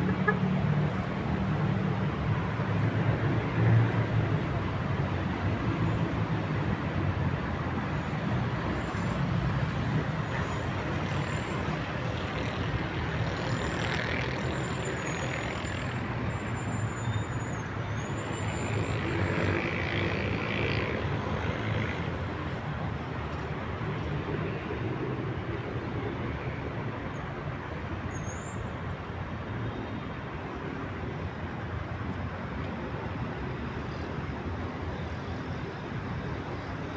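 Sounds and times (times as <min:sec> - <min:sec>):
city traffic rumble: 0:00.0 - 0:36.9.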